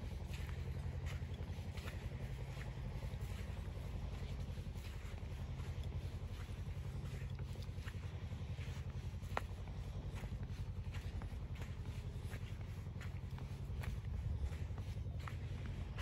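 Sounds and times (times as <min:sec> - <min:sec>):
footsteps walking: 0:00.0 - 0:16.0
steady low rumble: 0:00.0 - 0:16.0.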